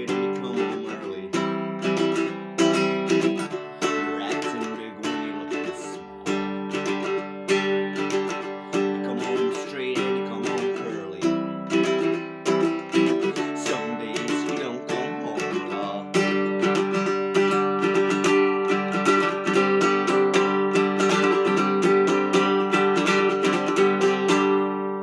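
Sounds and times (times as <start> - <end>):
ukulele strumming: 0.0 - 25.0.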